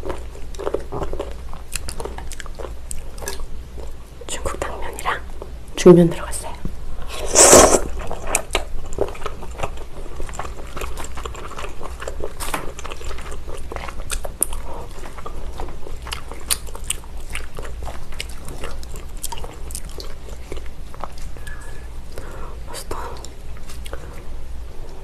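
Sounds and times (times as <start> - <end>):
chewing and crunching: 0.0 - 4.2, 7.8 - 25.0
steady low hum: 0.0 - 25.0.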